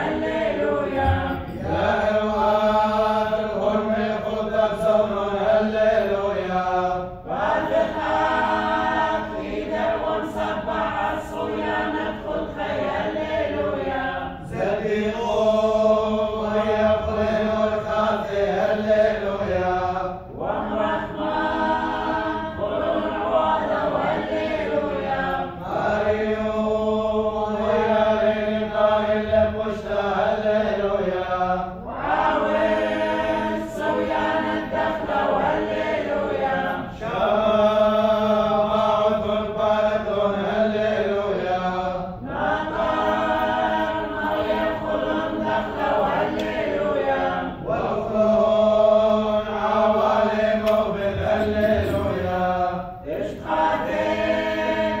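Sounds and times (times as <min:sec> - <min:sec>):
voices singing a liturgical chant: 0:00.0 - 0:55.0.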